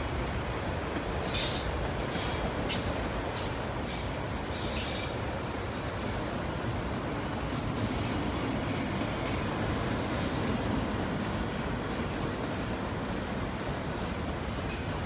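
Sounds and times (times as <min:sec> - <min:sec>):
train cars rolling rumble: 0:00.0 - 0:15.0.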